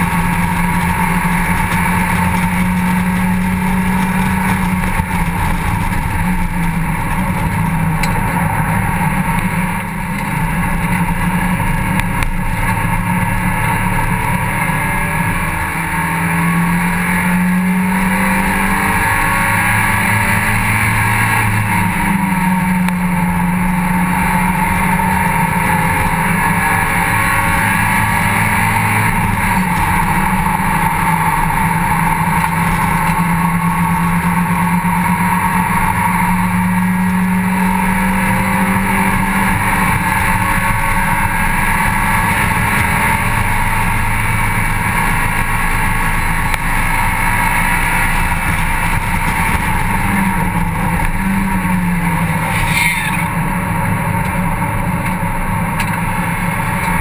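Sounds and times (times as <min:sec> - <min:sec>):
race car engine running: 0:00.0 - 0:57.0
wind and road noise: 0:00.0 - 0:57.0.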